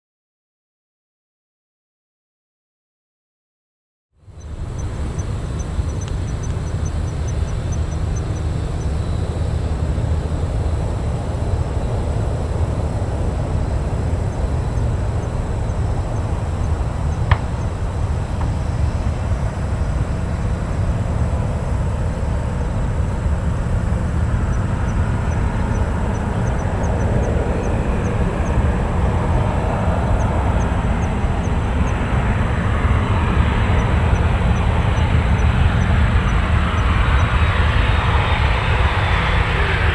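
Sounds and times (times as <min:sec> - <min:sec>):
jet engines rumbling: 0:04.2 - 0:39.9.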